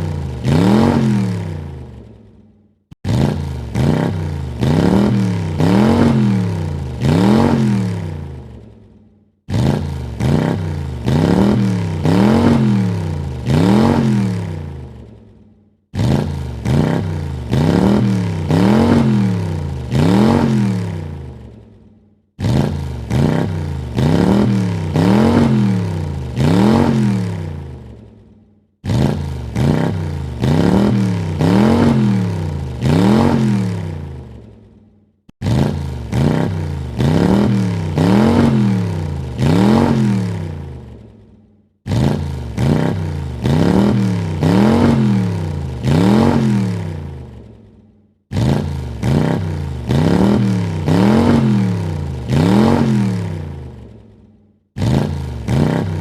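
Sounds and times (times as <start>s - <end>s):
car engine revving in blips: 0.0s - 1.8s, 3.0s - 8.6s, 9.5s - 15.0s, 15.9s - 21.5s, 22.4s - 28.0s, 28.8s - 34.3s, 35.3s - 41.0s, 41.8s - 47.4s, 48.3s - 53.8s, 54.8s - 56.0s.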